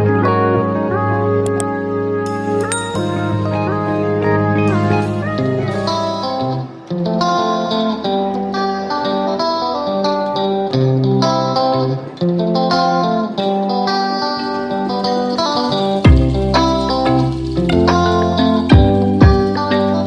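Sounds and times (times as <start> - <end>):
plucked guitar melody: 0.0 - 20.0.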